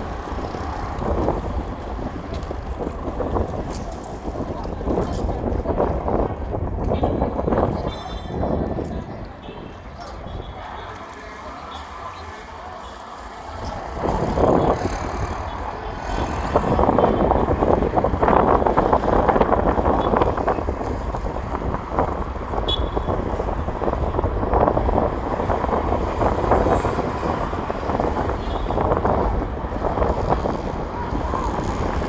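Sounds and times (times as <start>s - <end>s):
strong wind gusting on microphone: 0.0s - 32.0s.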